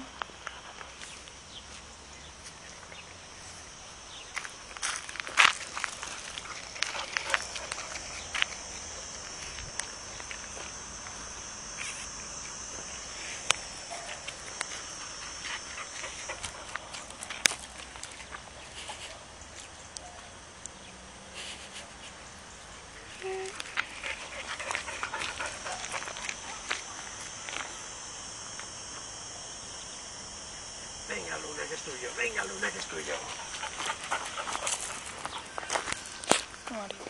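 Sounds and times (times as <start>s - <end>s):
high-pitched insect chirring: 0.0s - 20.7s, 23.0s - 37.0s
footsteps crunching on gravel: 0.3s - 19.8s, 23.6s - 29.5s, 30.9s - 37.0s.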